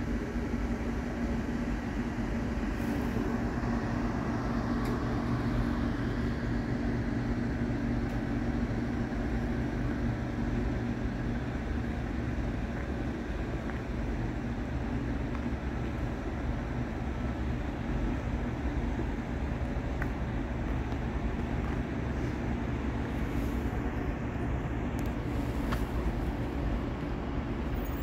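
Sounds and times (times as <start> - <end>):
droning hum: 0.0 - 28.0.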